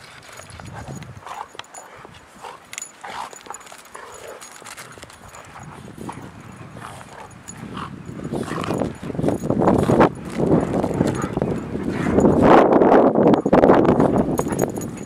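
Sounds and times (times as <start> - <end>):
paws crunching through snow: 0.0 - 12.5.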